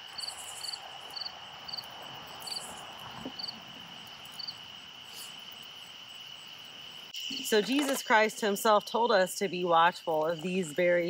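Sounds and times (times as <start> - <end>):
cricket chirping: 0.0 - 11.0
crickets trilling: 0.0 - 11.0.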